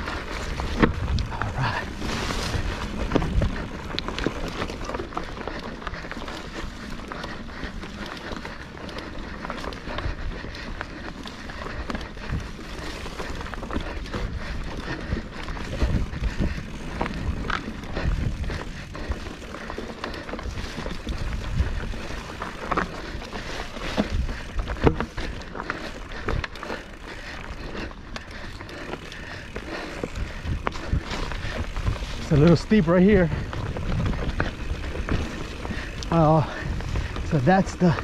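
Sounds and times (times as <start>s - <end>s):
bike knocking and clattering: 0.0s - 38.0s.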